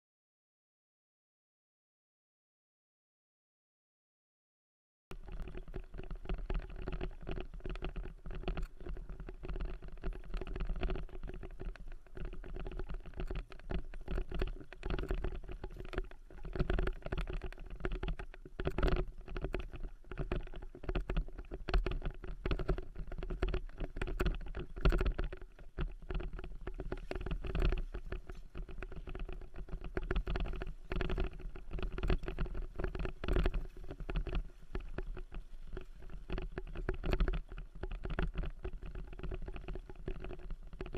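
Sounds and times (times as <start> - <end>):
faint steady hum: 5.1 - 40.9
wheels and frame rattling: 5.1 - 40.9.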